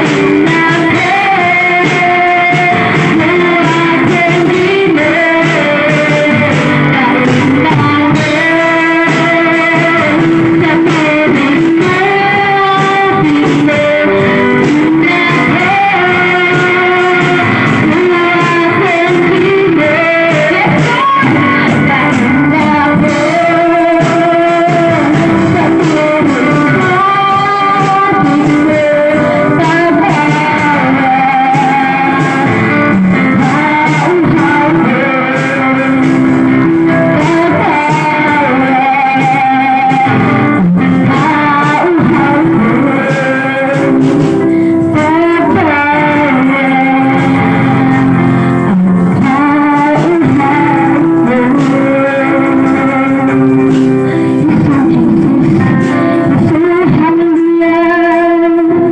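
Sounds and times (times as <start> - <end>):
instrumental accompaniment: 0.0 - 58.9
women singing worship song: 0.0 - 58.9.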